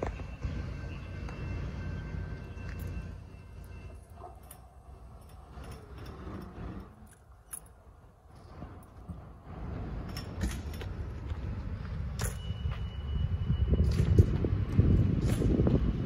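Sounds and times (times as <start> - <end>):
diesel engine running low: 0.0 - 16.0.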